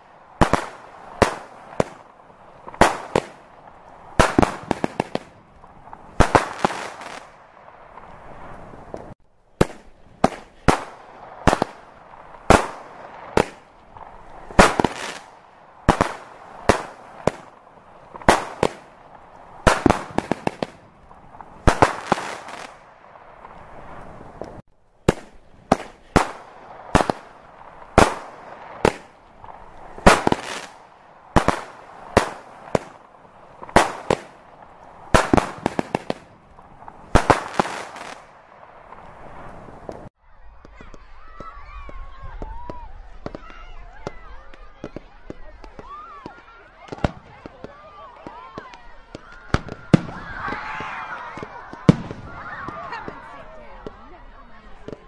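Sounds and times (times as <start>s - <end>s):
fireworks bursting: 0.0s - 55.0s
fireworks crackling: 0.0s - 55.0s.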